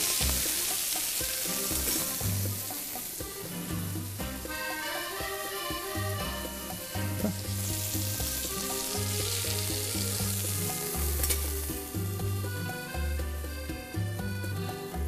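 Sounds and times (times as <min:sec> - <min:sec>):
meat sizzling on a grill: 0:00.0 - 0:13.2
background music with bass line: 0:00.0 - 0:15.0.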